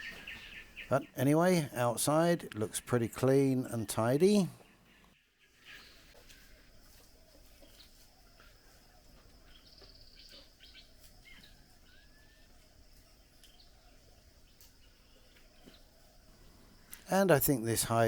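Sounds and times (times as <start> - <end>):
distant bird chirps: 0.0 - 18.0.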